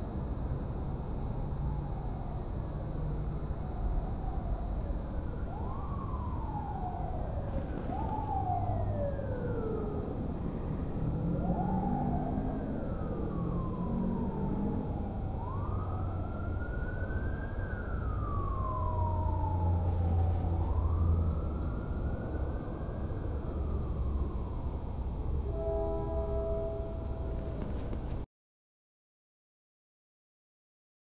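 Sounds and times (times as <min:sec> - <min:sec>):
low city hum: 0:00.0 - 0:28.3
distant sirens wailing: 0:00.1 - 0:28.2.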